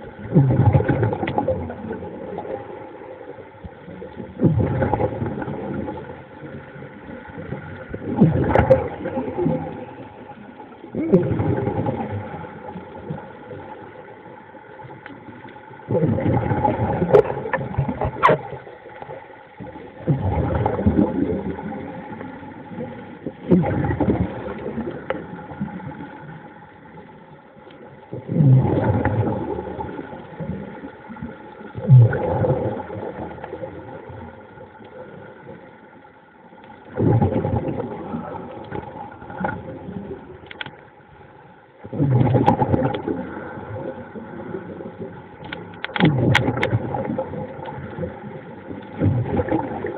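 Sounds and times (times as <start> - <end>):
faint steady hum: 0.0 - 49.9
underwater rushing water and bubbles: 0.0 - 49.9.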